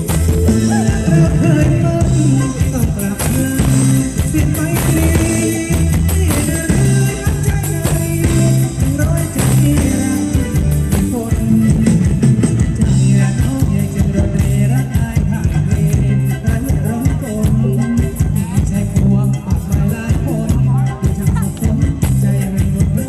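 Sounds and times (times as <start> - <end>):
drum kit beat: 0.0 - 23.0
live band playing dance music: 0.0 - 23.0
person singing: 0.0 - 23.0.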